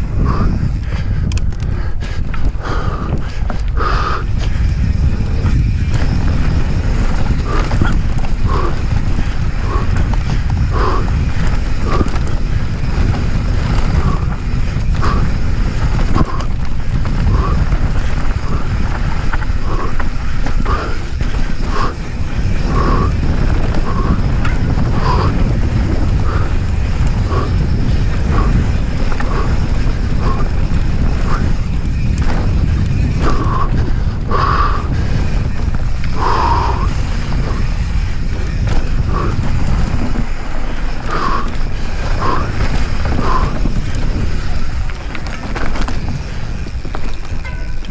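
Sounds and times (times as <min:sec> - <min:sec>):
bike rolling over dirt trail: 0:00.0 - 0:47.9
wind buffeting microphone: 0:00.0 - 0:47.9.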